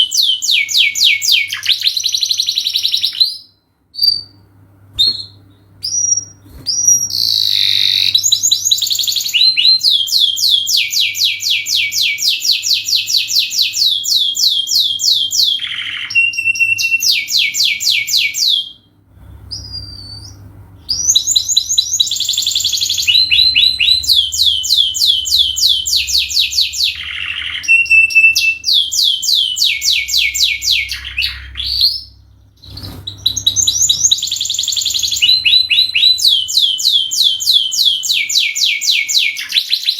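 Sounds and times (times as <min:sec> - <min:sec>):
canary singing trills: 0:00.0 - 0:04.4, 0:05.0 - 0:18.9, 0:19.5 - 0:39.9.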